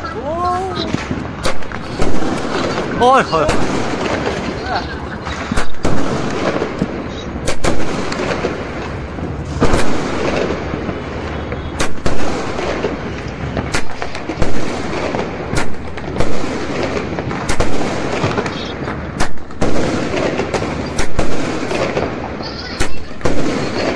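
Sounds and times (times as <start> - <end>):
distant firecrackers: 0.0 - 23.9
sharp firework bangs: 0.0 - 23.9.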